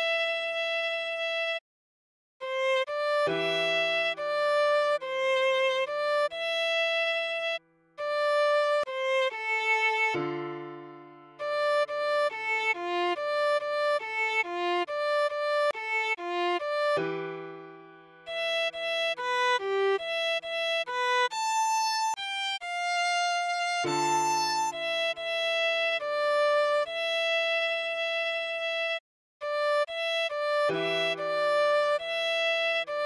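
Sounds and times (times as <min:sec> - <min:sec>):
viola melody: 0:00.0 - 0:01.6, 0:02.4 - 0:33.0.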